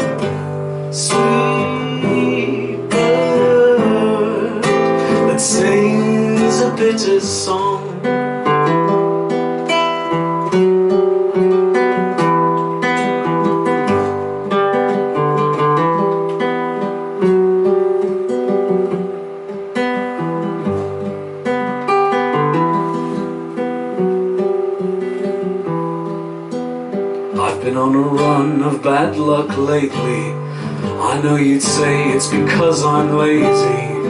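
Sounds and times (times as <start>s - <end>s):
acoustic guitar chords: 0.0s - 34.0s.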